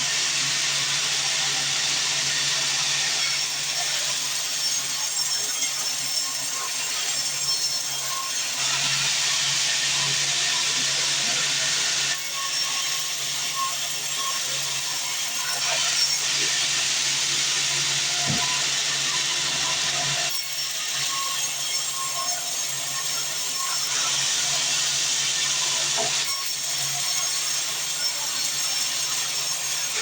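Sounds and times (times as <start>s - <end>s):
band saw cutting wood: 0.0s - 30.0s.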